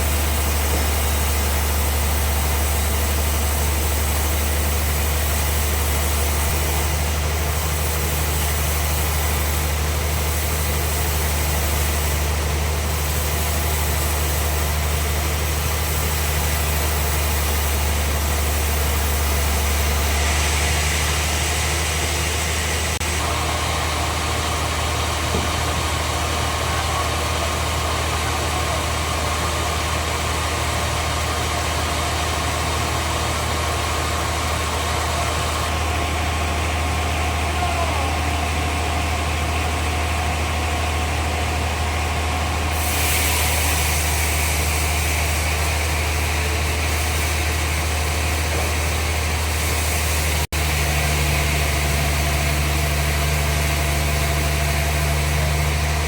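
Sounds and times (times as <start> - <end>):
bandsaw machinery humming: 0.0 - 56.0
loud hiss: 0.0 - 56.0.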